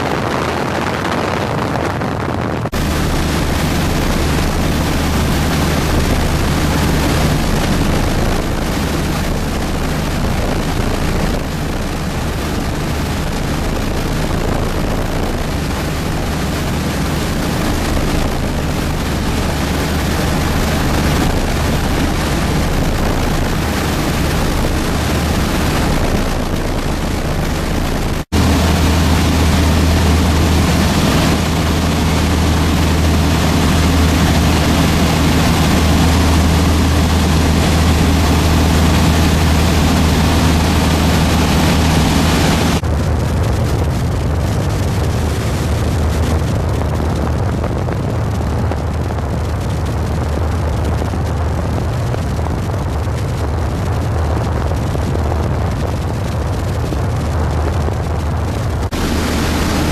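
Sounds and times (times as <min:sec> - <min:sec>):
storm wind blowing on microphone: 0:00.0 - 0:59.9.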